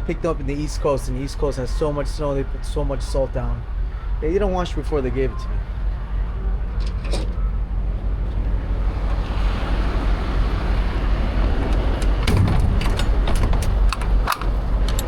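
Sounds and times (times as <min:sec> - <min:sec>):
low vehicle engine rumble: 0:00.0 - 0:15.0.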